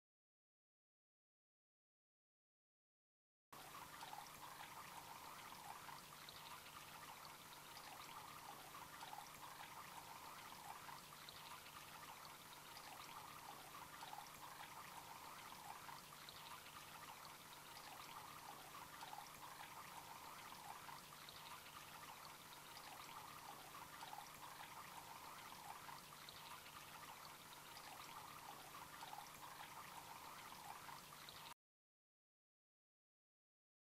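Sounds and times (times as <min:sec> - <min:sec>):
faint steady hum: 0:03.6 - 0:31.6
water fountain trickling: 0:03.6 - 0:31.6.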